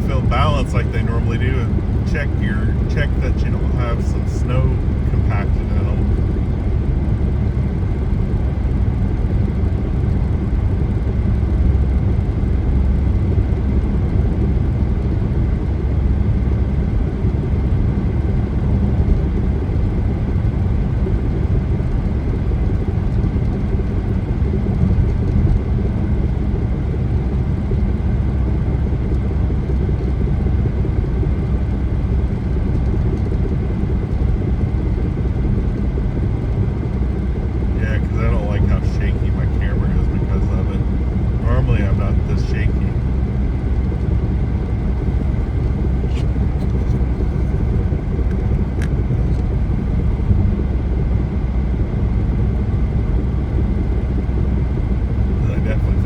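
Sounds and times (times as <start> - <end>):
engine rumble: 0.0 - 56.0
road and tyre noise: 0.0 - 56.0.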